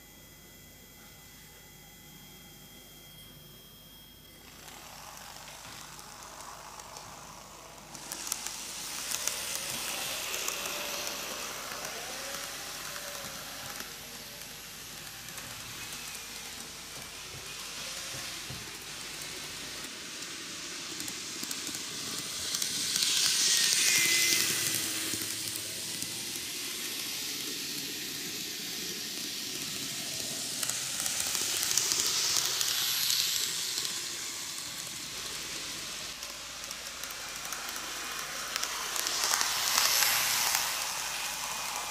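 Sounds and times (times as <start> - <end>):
model trains rattling on track: 4.6 - 41.9.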